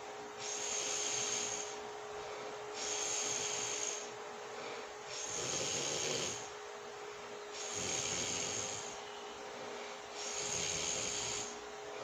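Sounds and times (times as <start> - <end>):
woman breathing heavily and snoring: 0.4 - 6.5, 7.5 - 9.0, 9.7 - 11.6.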